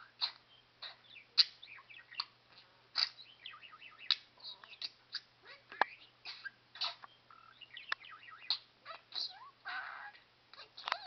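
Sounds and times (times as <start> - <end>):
budgerigar sharp chirp: 0.1 - 11.0
budgerigar warbling and clicks: 0.2 - 11.0.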